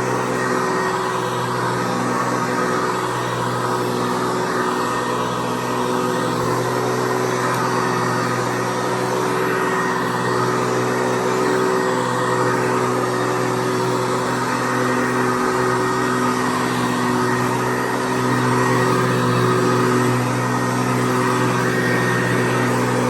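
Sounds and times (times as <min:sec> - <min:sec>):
vacuum cleaner whine and hiss: 0:00.0 - 0:23.0.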